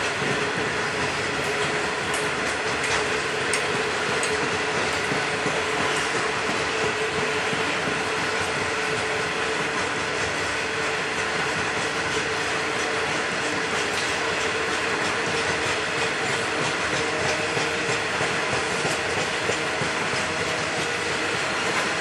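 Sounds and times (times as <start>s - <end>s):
wheels clicking over rail joints: 0.0s - 22.0s.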